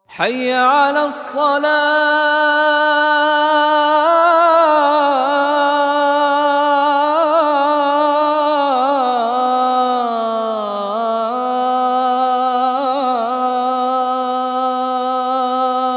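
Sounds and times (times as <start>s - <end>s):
man chanting call to prayer: 0.0s - 15.9s.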